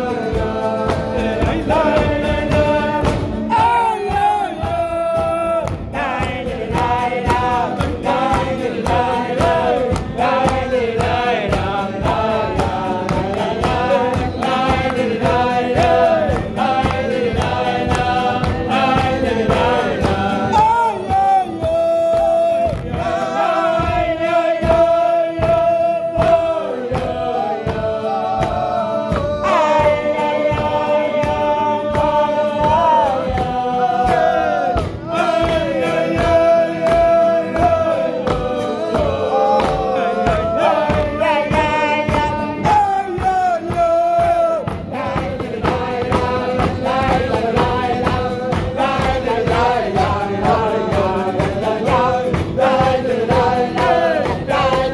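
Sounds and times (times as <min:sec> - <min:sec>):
men singing together: 0:00.0 - 0:54.9
steady beat: 0:00.0 - 0:54.9.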